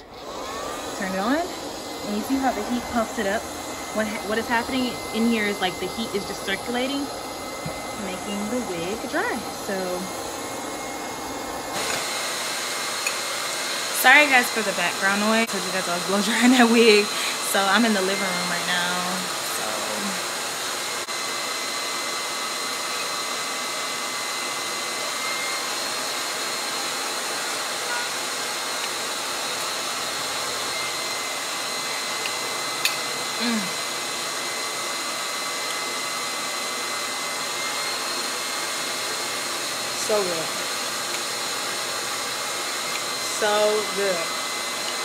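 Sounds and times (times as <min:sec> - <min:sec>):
blow dryer running with high whine: 0:00.0 - 0:45.0.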